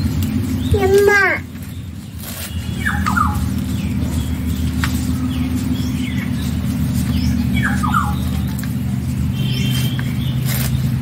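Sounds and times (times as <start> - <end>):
low mechanical hum: 0.0 - 11.0
small birds chirping: 0.0 - 11.0.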